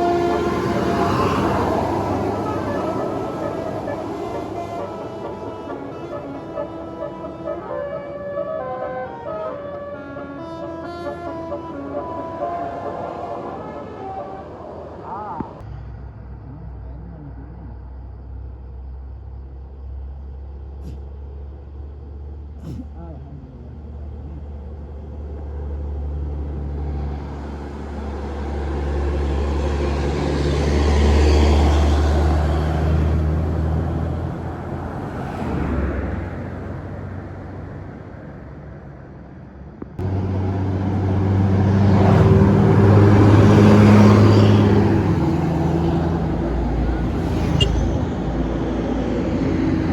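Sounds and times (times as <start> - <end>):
bus engine droning: 0.0 - 49.9
road noise: 0.0 - 49.9.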